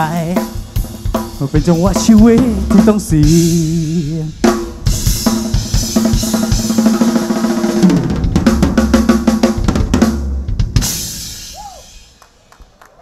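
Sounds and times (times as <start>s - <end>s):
drum kit played hard: 0.0s - 12.2s
backing music track: 0.0s - 12.9s.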